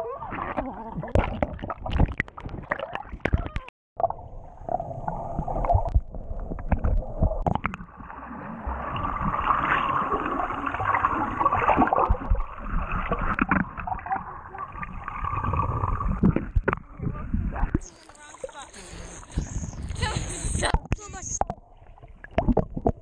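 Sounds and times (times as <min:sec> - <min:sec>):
underwater gurgling and sloshing: 0:00.0 - 0:23.0.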